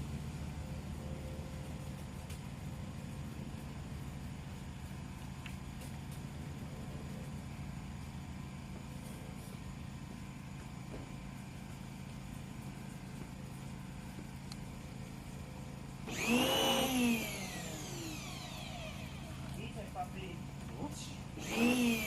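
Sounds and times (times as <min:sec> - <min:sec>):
pressure washer engine droning: 0:00.0 - 0:22.0.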